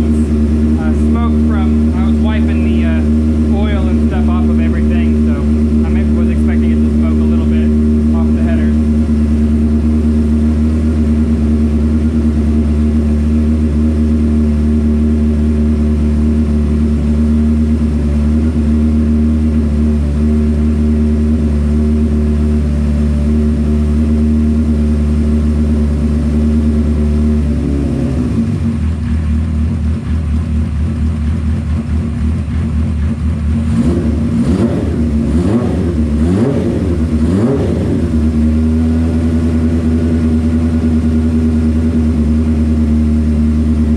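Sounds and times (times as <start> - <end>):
engine revving: 0.0 - 29.7, 32.4 - 43.9
motorcycle engine idling: 0.0 - 43.9.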